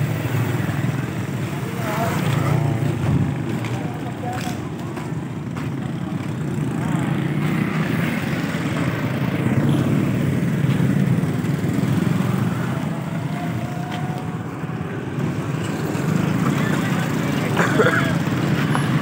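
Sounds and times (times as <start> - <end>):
motor vehicle engines rumbling: 0.0 - 19.0.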